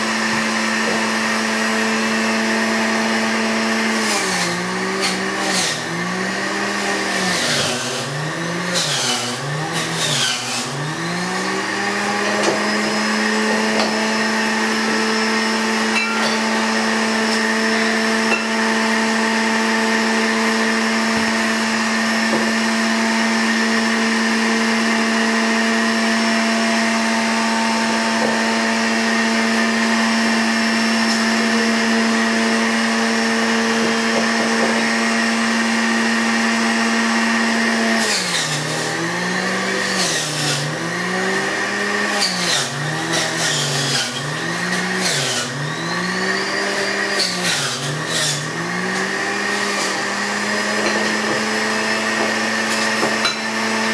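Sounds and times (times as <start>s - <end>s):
carrots grinding in juicer: 0.0s - 53.9s
juicer motor whining: 0.0s - 53.9s.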